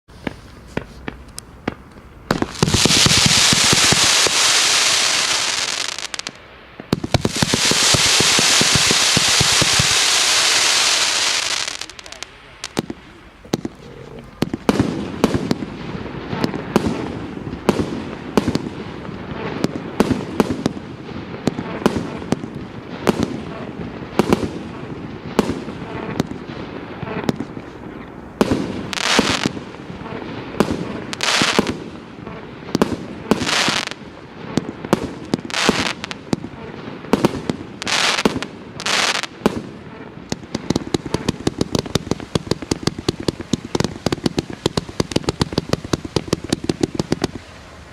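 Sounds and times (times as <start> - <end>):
firework battery firing: 1.2 - 13.8, 14.4 - 47.9.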